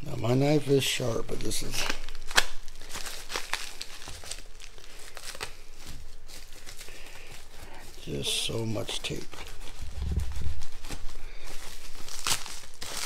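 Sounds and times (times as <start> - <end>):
paper and tape crinkling tearing: 0.2 - 13.0.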